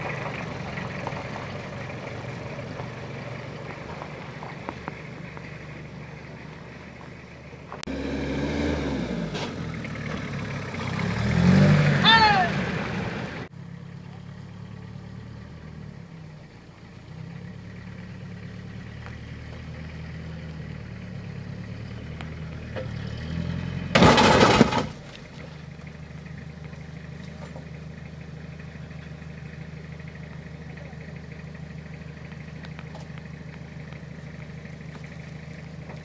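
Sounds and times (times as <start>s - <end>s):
pickup truck engine running: 0.0s - 36.0s.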